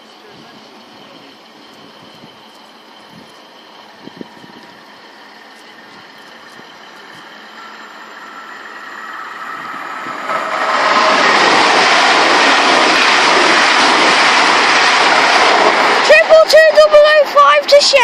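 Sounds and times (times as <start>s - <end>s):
passenger train passing: 0.0s - 18.0s.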